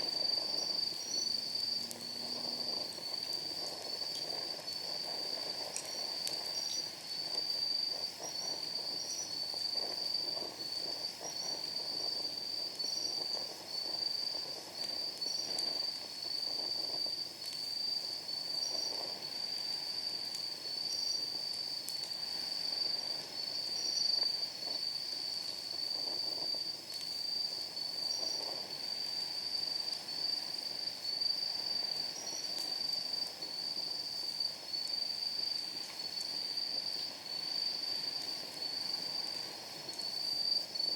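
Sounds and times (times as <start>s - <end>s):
firewood burning and crackling: 0.0s - 40.9s
insects trilling: 0.0s - 40.9s.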